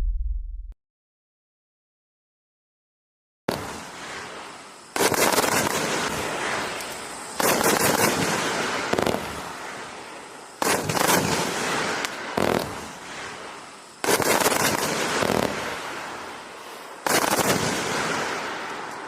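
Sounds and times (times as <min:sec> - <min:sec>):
firework cake rapid shots: 0:03.5 - 0:19.0.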